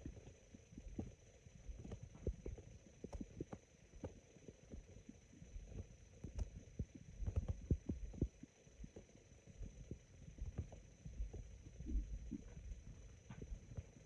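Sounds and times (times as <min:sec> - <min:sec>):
stomach gurgling: 0:00.0 - 0:14.0.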